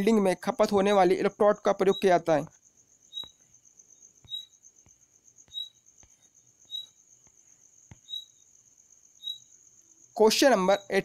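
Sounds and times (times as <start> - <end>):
higher insect chirp: 0.0 - 11.0
insect trilling: 0.0 - 11.0.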